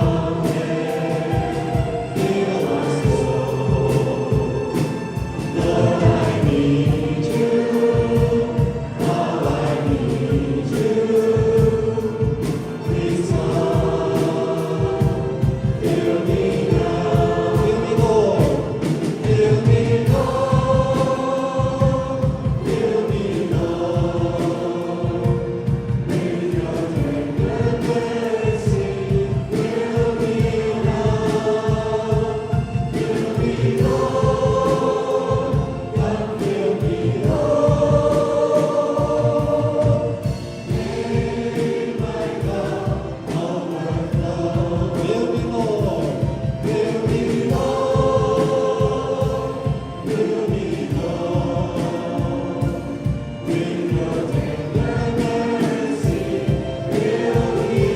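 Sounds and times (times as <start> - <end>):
band accompaniment: 0.0 - 57.9
congregation singing: 0.0 - 57.9.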